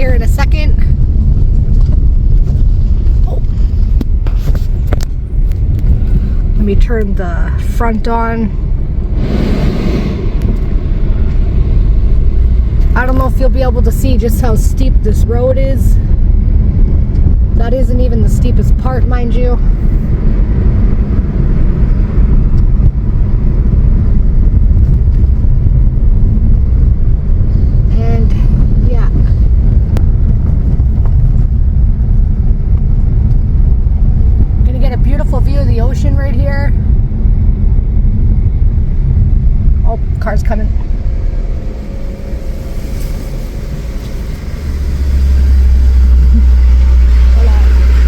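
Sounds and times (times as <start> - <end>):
car engine and tyre rumble: 0.0 - 48.0
vehicle driving on dirt road: 0.0 - 48.0.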